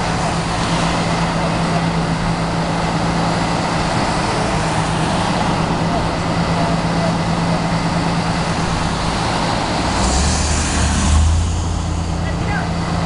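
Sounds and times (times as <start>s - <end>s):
heavy vehicle passing: 0.0s - 13.0s
road traffic: 0.0s - 13.0s.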